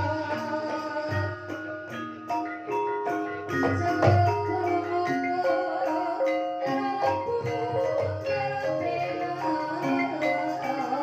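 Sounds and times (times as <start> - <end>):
gamelan metallophone notes: 0.0 - 11.0.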